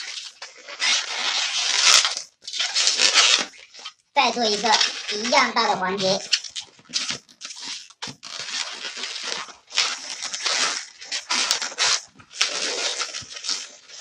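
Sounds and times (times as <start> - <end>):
balloon rubbing and creaking: 0.0 - 14.0.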